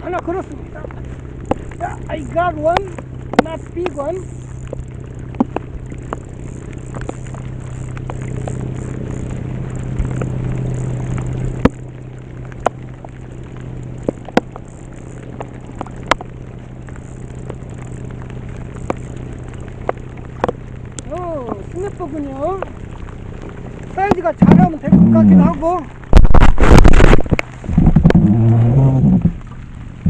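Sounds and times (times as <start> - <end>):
sharp drip clicks: 0.0 - 28.2
rain pattering on a kayak: 0.0 - 30.0
steady low hum: 0.0 - 30.0.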